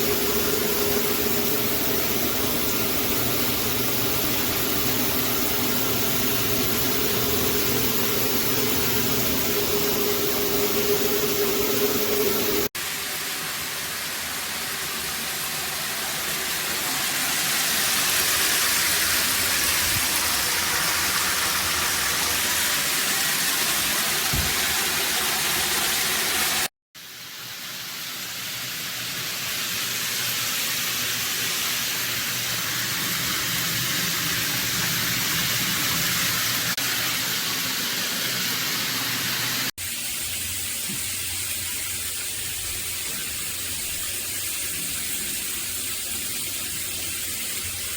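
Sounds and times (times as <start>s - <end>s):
water spraying from shower head: 0.0s - 47.9s.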